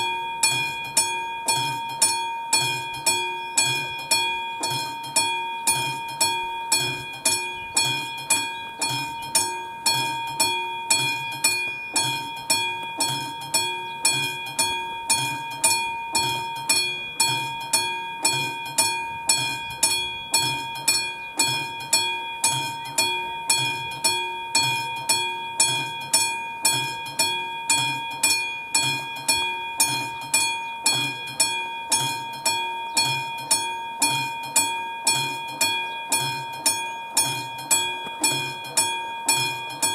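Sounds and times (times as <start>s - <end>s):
level crossing bell ringing: 0.0s - 39.9s.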